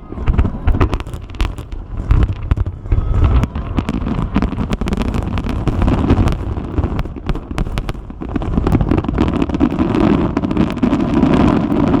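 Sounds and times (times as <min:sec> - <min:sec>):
firework pops and crackles: 0:00.0 - 0:12.0
low rumble of bursts: 0:00.0 - 0:12.0.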